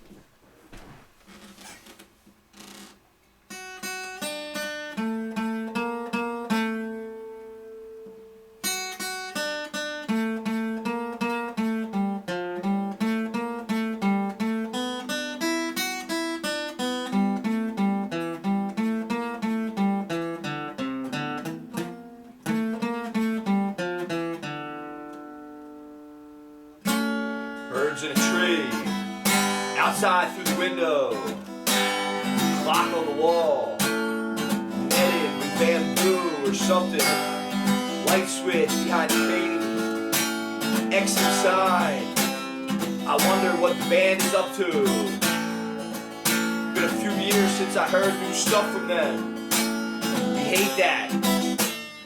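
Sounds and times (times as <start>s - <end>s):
guitar picking a melody: 1.4s - 52.0s.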